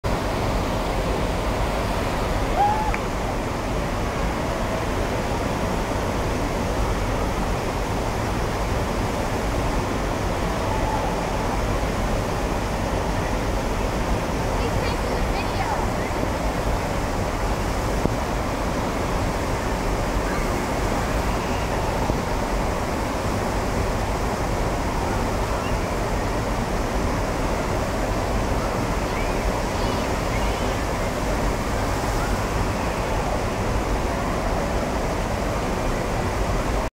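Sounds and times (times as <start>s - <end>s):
water rushing: 0.0s - 36.9s.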